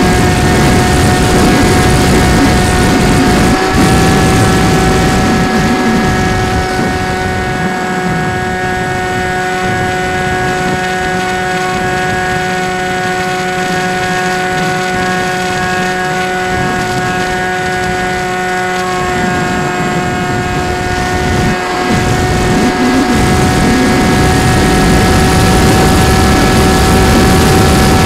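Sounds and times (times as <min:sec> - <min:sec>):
electric motor and propeller whining: 0:00.0 - 0:28.0
wind rumbling on microphone: 0:00.0 - 0:28.0.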